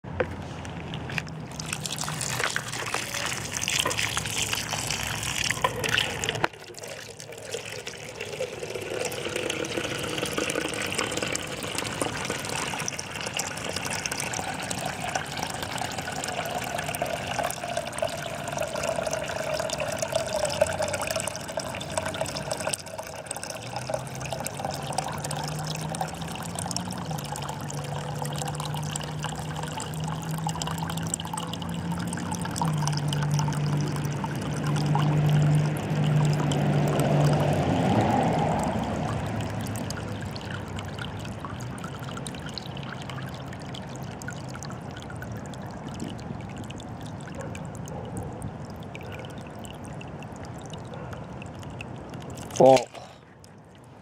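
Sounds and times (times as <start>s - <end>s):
water filling container: 0.0s - 54.0s.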